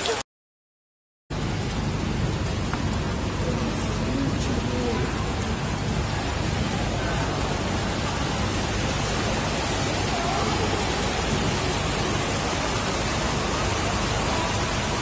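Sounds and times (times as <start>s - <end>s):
heavy rain: 0.0s - 0.2s, 1.3s - 15.0s
floodwater rushing: 1.3s - 15.0s.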